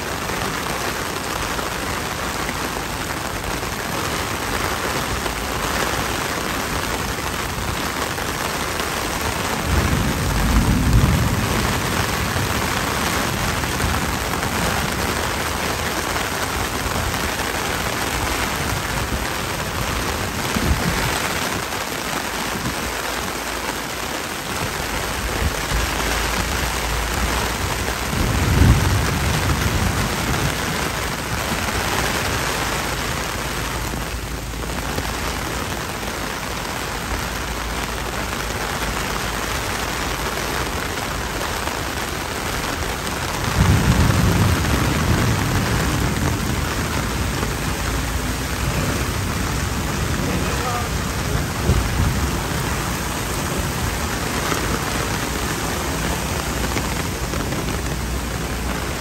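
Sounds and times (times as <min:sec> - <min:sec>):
heavy rain on pavement: 0:00.0 - 0:59.0.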